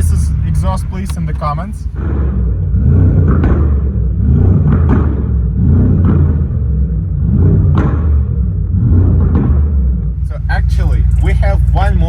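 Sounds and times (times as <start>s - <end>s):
car exhaust running loudly: 0.0s - 12.0s.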